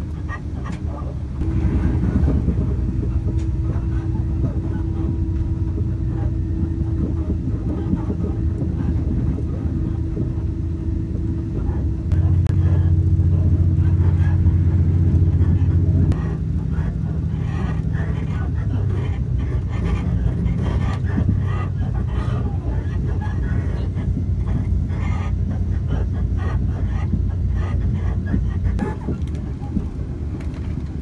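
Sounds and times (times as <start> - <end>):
steady hum: 0.0 - 31.0
train engine and wheels rumble: 0.0 - 31.0.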